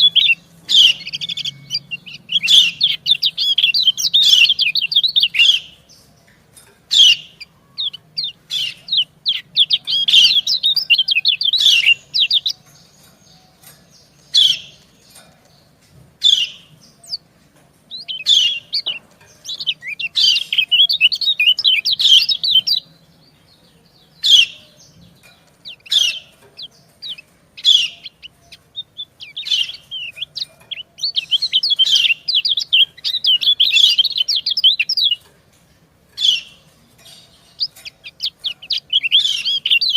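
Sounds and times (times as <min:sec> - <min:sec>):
bird chip notes: 0:00.0 - 0:39.9.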